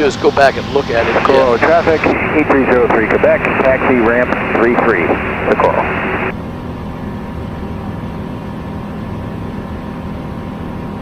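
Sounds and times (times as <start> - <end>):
light aircraft engine and propeller drone: 0.0 - 11.0.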